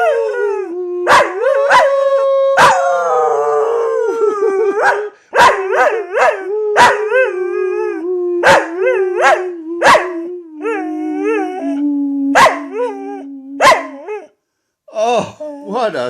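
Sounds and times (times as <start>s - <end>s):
dog howling: 0.0s - 14.3s.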